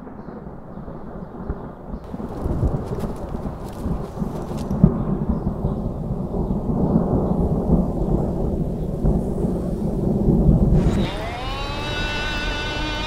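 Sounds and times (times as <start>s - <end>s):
rolling thunder rumble: 0.0s - 13.0s.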